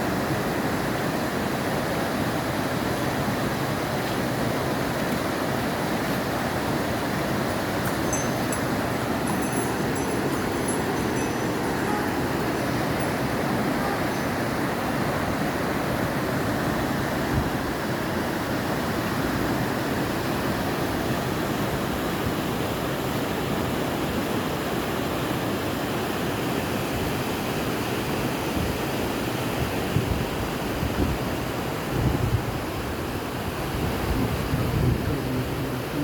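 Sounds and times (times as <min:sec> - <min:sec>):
river rushing: 0:00.0 - 0:29.5.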